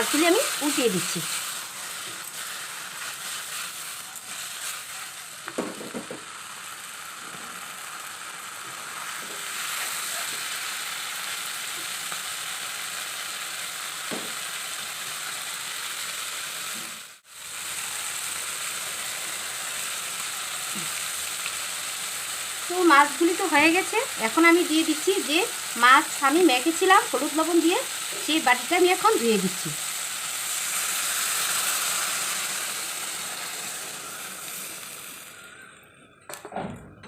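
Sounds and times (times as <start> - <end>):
fish sizzling in oil: 0.0 - 35.8.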